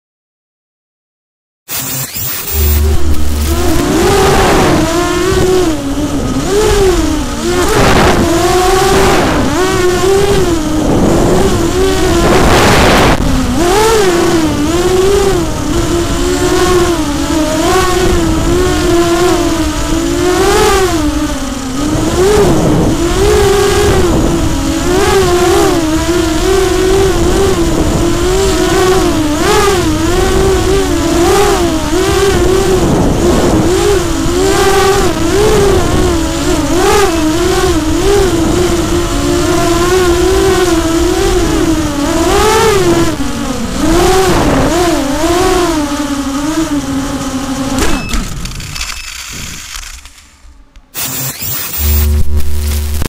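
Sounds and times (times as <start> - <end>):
quadcopter motors whining: 1.7 - 53.0.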